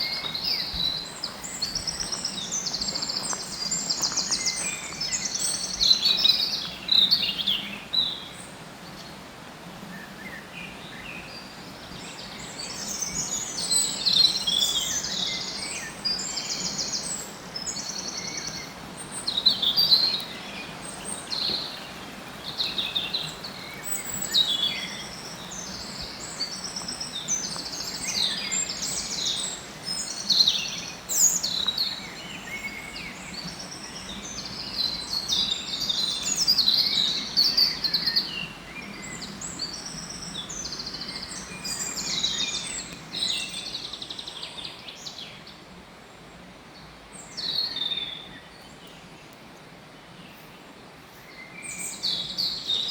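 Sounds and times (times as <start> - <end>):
faint steady background noise: 0.0 - 52.9
songbirds chirping and trilling: 0.0 - 52.9.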